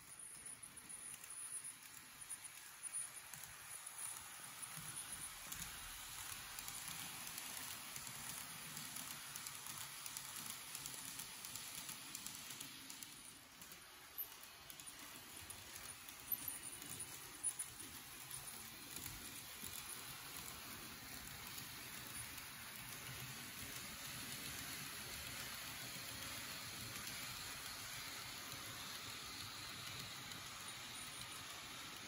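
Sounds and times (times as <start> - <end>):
model train wheels rattling: 0.0 - 32.0.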